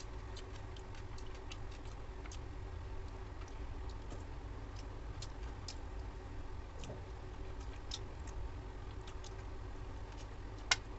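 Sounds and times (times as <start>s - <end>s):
chewing and lip smacking: 0.0s - 6.1s, 6.8s - 10.9s
steady low hum: 0.0s - 10.9s.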